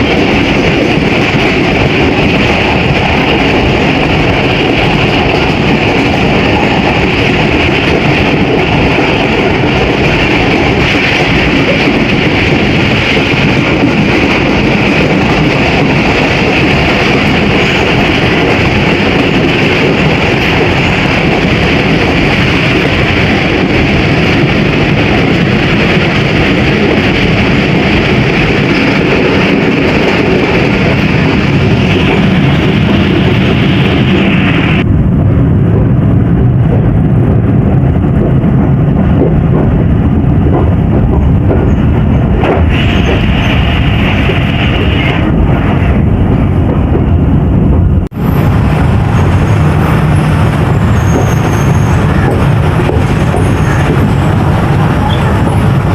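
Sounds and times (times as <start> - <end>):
passenger train rolling: 0.0 - 55.9.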